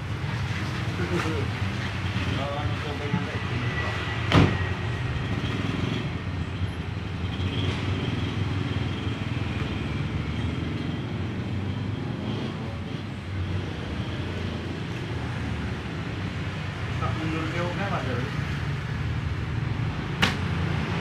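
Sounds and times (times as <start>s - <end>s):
motor vehicle engines rumbling: 0.0s - 21.0s.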